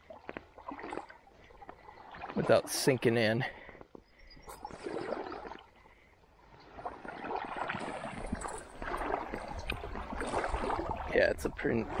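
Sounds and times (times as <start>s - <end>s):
wading steps sloshing in water: 0.0s - 12.0s.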